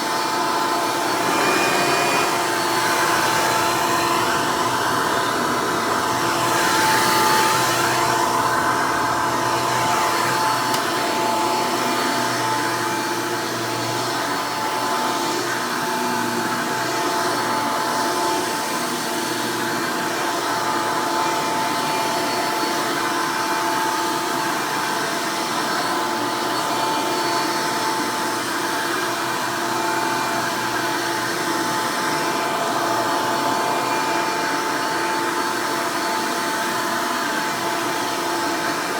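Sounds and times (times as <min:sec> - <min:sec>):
upright vacuum whining: 0:00.0 - 0:38.9.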